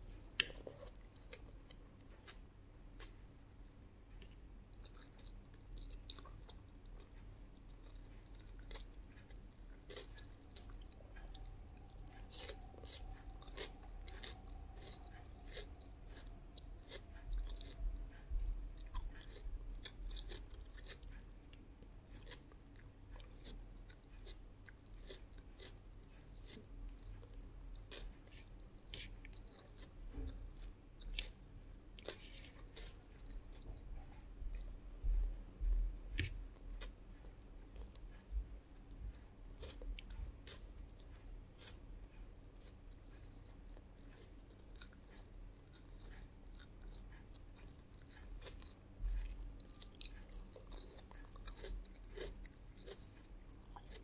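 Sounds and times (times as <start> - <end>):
person chewing food: 0.0 - 3.3, 4.1 - 54.0.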